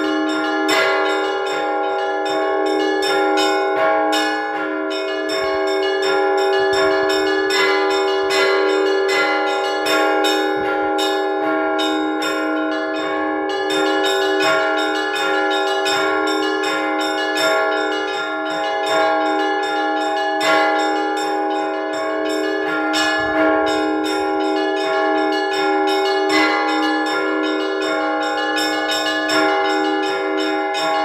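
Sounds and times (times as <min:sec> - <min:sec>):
heavy bell strokes: 0:00.0 - 0:31.0
small church bells ringing: 0:00.0 - 0:31.0.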